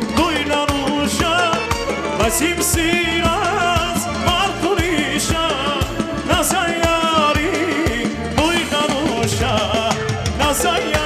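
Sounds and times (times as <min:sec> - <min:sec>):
accordion: 0:00.0 - 0:11.0
keyboard melody: 0:00.0 - 0:11.0
man singing into a microphone: 0:00.0 - 0:11.0
steady drum beat: 0:00.0 - 0:11.0.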